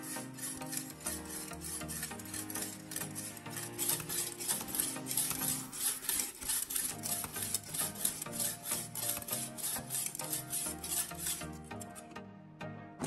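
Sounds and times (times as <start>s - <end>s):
whetstone scraping knife blade: 0.0s - 12.0s
soft background music: 0.0s - 13.0s.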